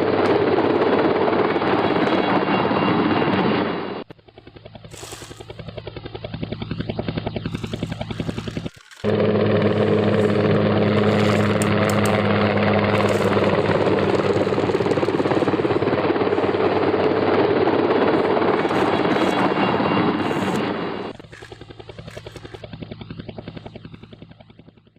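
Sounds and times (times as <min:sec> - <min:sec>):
small motor humming: 0:04.4 - 0:24.5.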